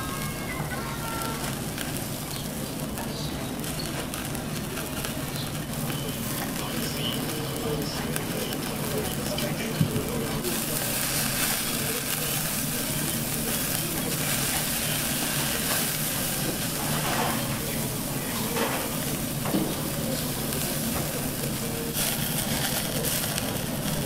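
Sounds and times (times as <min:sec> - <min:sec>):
meat sizzling on grill: 0:00.0 - 0:24.0.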